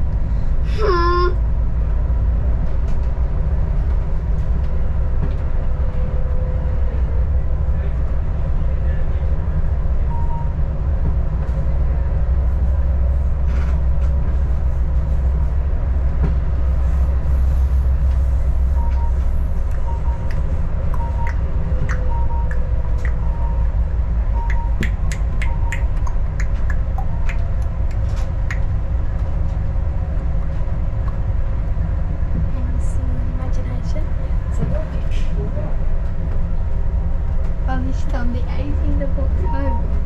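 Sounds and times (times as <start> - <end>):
railcar rumbling along track: 0.0 - 40.0.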